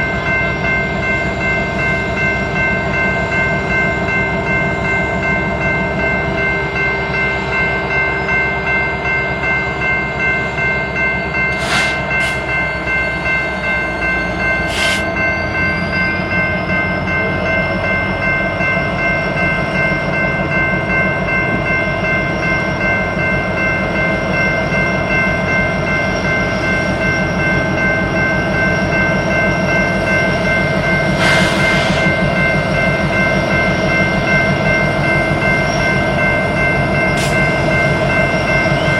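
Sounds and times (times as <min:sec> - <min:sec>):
coal train rumbling by: 0:00.0 - 0:38.9.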